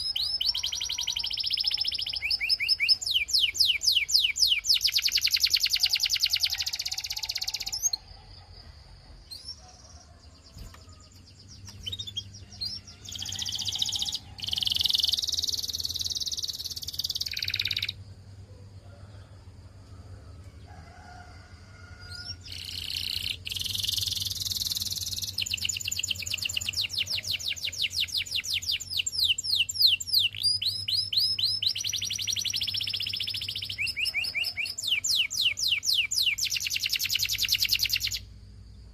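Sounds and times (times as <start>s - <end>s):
canary singing trills: 0.0s - 8.6s, 9.2s - 18.0s, 22.0s - 38.3s
faint low hum: 0.0s - 38.9s.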